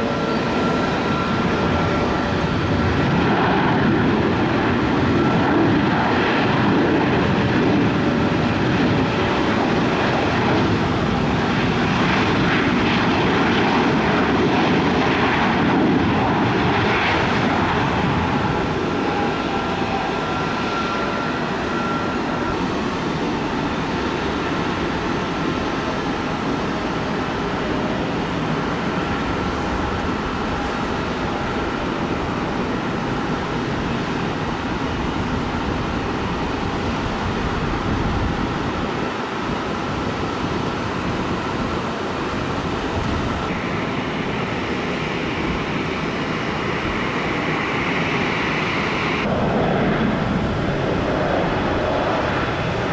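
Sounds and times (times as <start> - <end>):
airliner engines running: 0.0 - 52.9.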